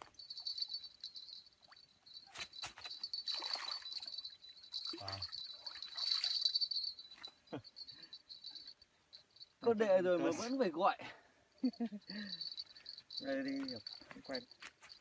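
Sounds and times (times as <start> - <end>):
insects buzzing: 0.1 - 9.7, 11.7 - 15.0.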